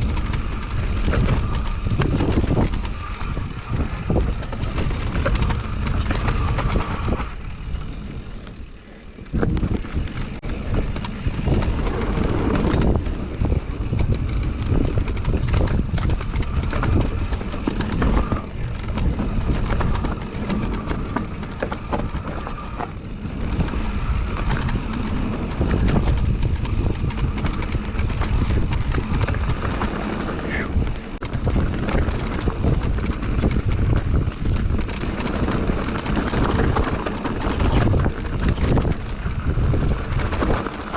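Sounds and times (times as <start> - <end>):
bike clattering and knocking: 0.0 - 40.9
tyres rumbling over dirt: 0.0 - 40.9
wind on microphone: 0.0 - 40.9.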